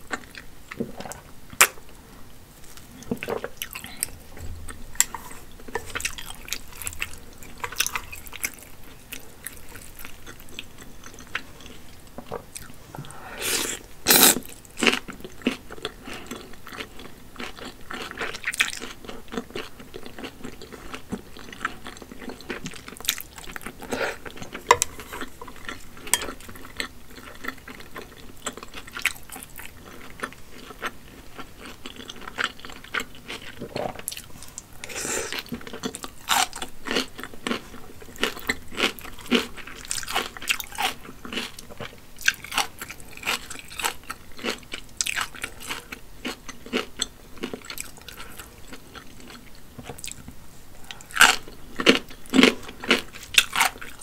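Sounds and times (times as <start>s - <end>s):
chewing and slurping noodles: 2.6s - 54.0s.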